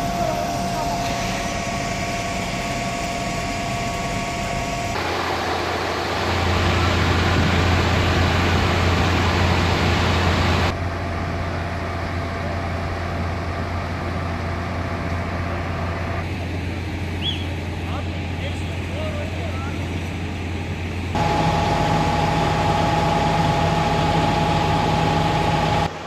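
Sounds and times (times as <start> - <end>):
strong low hum: 0.0 - 26.0
vehicle engines idling: 0.0 - 26.0.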